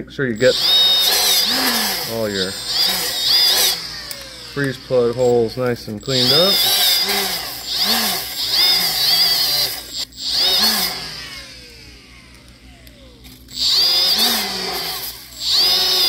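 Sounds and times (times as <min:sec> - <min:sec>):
die grinder whining: 0:00.4 - 0:16.0.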